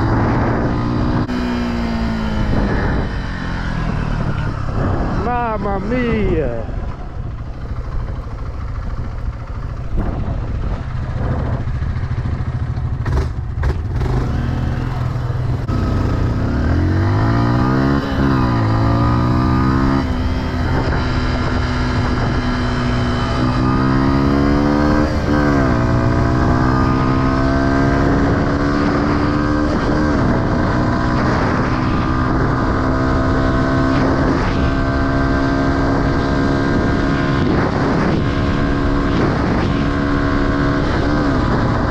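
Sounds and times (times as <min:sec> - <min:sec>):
dirt bike engine accelerating: 0:00.0 - 0:41.9
wind noise: 0:00.0 - 0:41.9.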